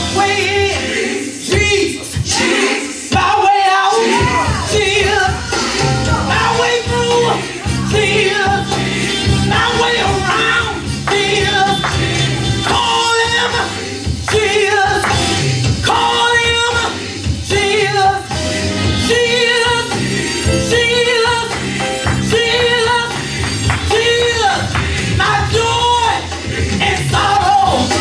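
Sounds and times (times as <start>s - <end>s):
woman singing gospel: 3.2s - 18.4s, 19.1s - 28.0s.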